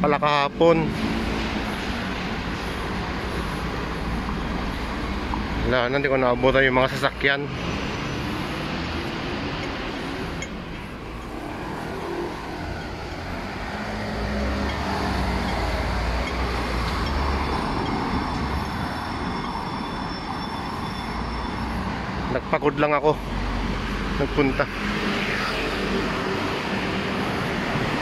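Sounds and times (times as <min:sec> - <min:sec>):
hum of traffic: 0:00.0 - 0:28.0.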